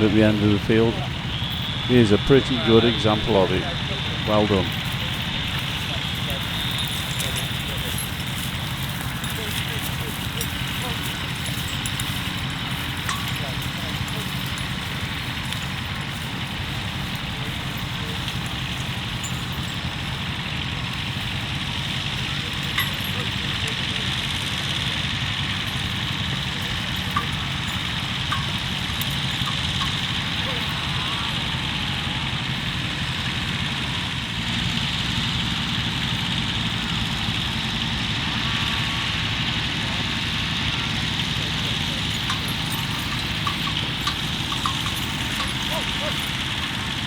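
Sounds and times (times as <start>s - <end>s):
constant hiss: 0.0s - 47.0s
engine running at low revs: 0.0s - 47.0s.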